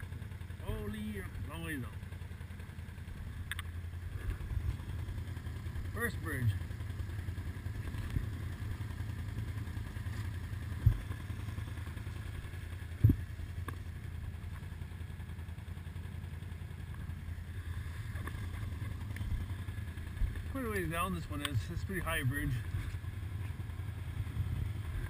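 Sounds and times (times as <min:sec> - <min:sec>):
atv engines running: 0:00.0 - 0:25.0.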